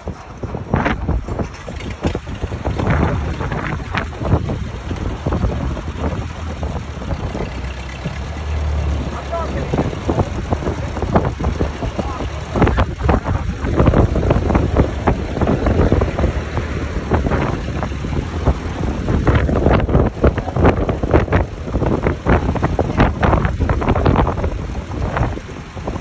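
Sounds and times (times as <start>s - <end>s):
tractor engine running: 0.0s - 26.0s
wind buffeting microphone: 0.0s - 26.0s.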